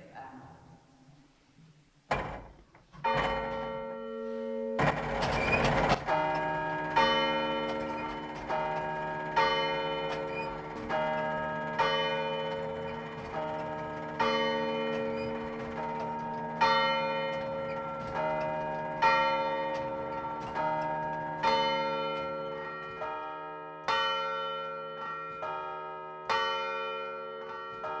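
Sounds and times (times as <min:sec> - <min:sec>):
church bells ringing: 0:03.0 - 0:28.0.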